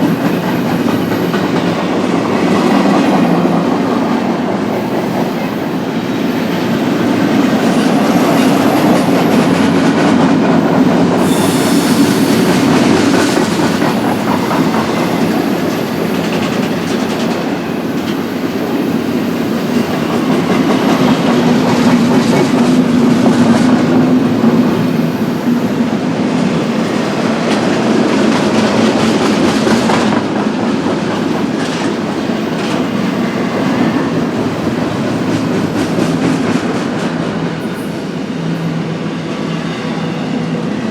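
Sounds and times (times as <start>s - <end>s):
freight train wheels rumbling on rail: 0.0s - 40.9s.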